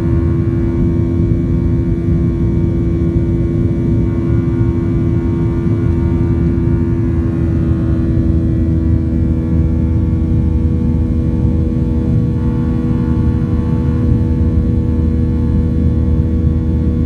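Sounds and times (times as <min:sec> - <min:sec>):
jet engines droning in airplane cabin: 0:00.0 - 0:17.0.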